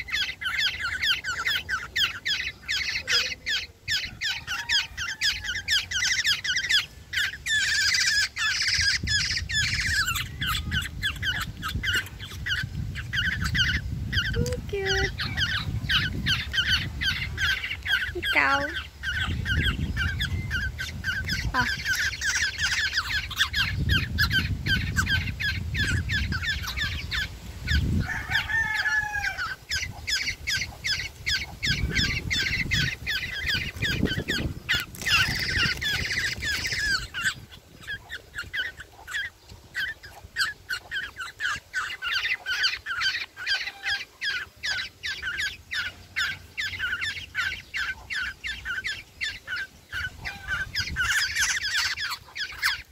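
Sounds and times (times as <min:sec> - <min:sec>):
young birds begging calls: 0:00.0 - 0:52.9.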